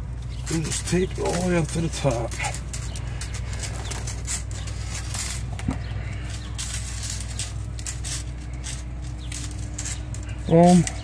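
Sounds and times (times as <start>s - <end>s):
electrical tape peeling off roll: 0.0s - 11.0s
steady low hum: 0.0s - 11.0s.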